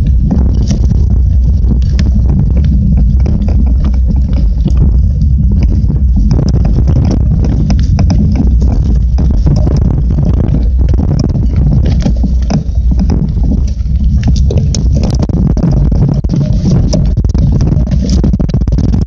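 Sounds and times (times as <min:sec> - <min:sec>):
bike tyres rumbling on dirt: 0:00.0 - 0:19.0
knocks and rattles: 0:00.0 - 0:19.0.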